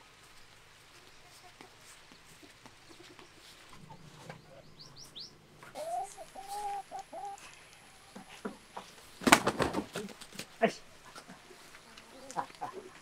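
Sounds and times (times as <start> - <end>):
chickens calling: 0.7 - 13.0.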